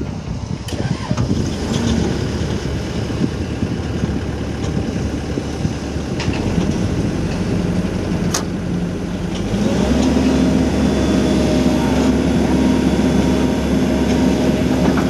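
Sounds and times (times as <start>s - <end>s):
excavator diesel engine under load: 0.0s - 15.0s.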